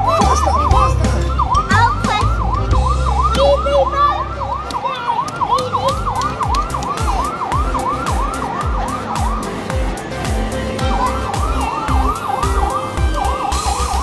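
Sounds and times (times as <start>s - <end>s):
electronic fire engine siren yelp: 0.0s - 14.0s.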